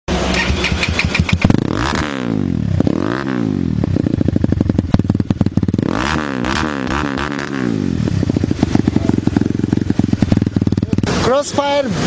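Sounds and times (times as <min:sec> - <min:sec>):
exhaust popping: 0:00.1 - 0:11.9
dirt bike engine revving: 0:00.1 - 0:12.0.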